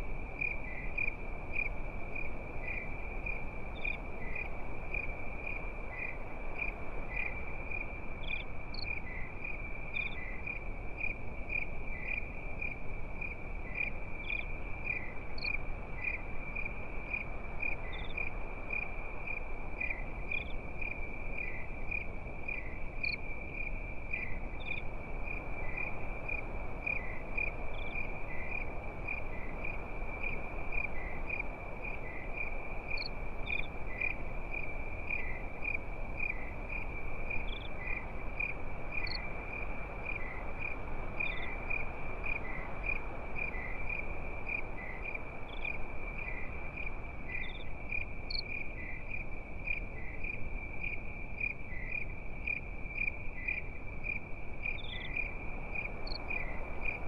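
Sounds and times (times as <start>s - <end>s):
crickets chirping: 0.0s - 57.0s
soft background hiss: 0.0s - 57.0s
higher insect chirp: 0.3s - 57.0s.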